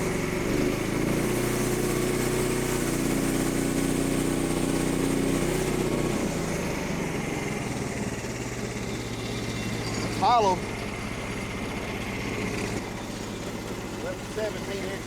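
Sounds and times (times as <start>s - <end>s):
small gas engine running: 0.0s - 15.0s.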